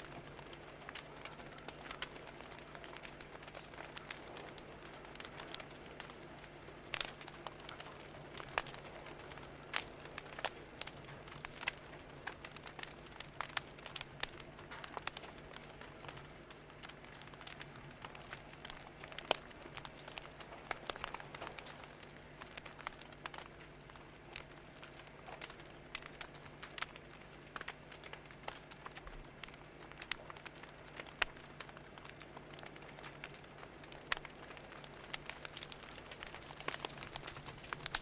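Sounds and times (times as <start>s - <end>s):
low steady hum: 0.0s - 38.0s
wood fire crackling and popping: 0.0s - 38.0s.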